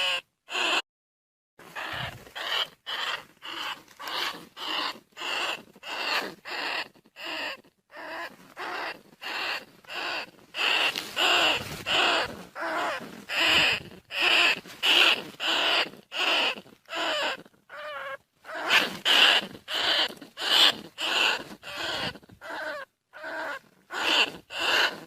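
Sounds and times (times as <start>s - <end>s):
rat squealing calls: 0.0s - 0.8s, 1.7s - 25.0s.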